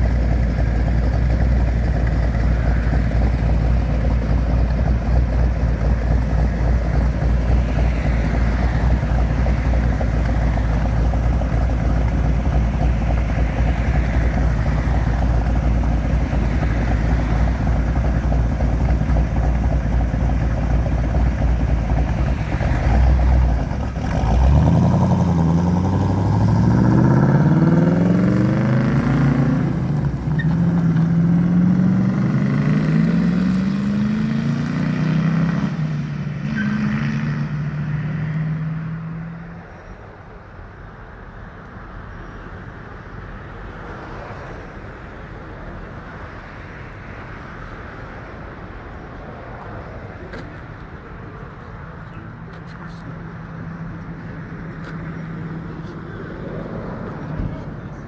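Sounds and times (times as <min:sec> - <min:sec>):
car engine rumbling and accelerating: 0:00.0 - 0:58.0.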